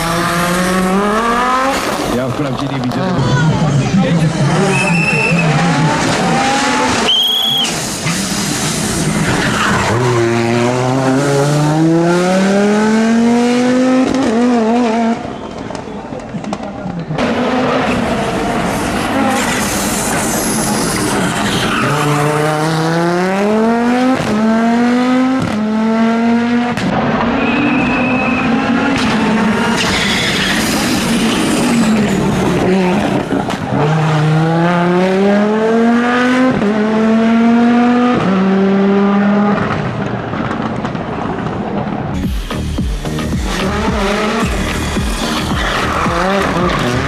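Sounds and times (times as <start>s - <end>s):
rally car engine accelerating: 0.0s - 15.8s, 16.4s - 47.0s.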